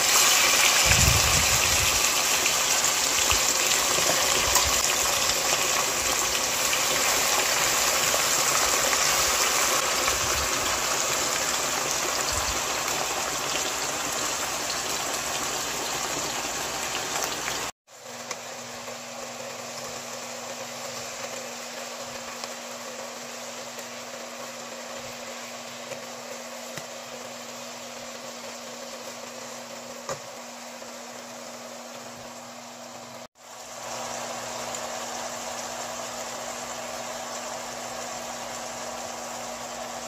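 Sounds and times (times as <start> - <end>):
meat sizzling in a frying pan: 0.0 - 40.0.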